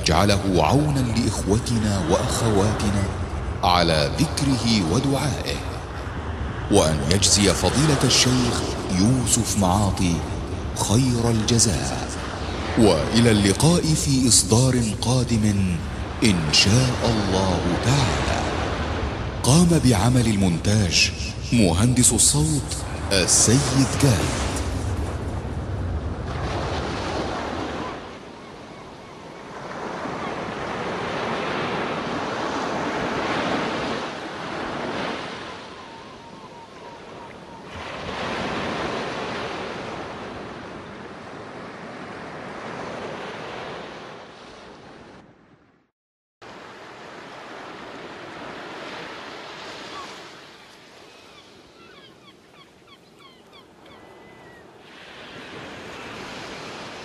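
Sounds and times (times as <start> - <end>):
ocean waves washing in: 0.0 - 45.7, 46.4 - 57.0.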